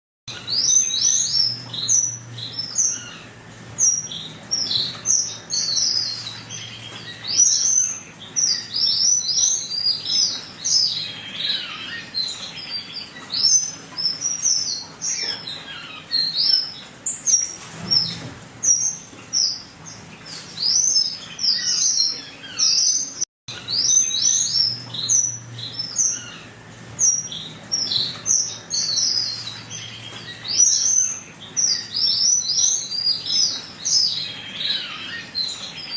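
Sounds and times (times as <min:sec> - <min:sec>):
sparrows chirping: 0:00.3 - 0:35.9.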